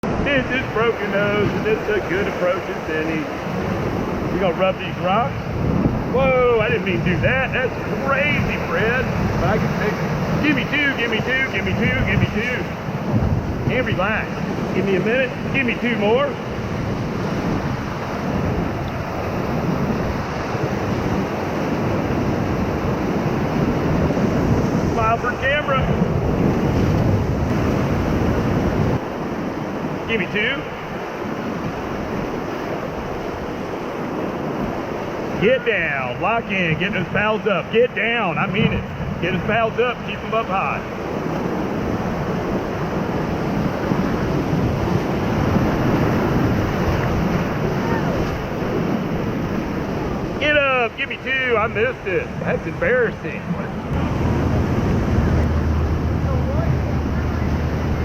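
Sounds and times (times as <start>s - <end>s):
whitewater rushing: 0.0s - 58.0s
wind buffeting microphone: 0.0s - 58.0s.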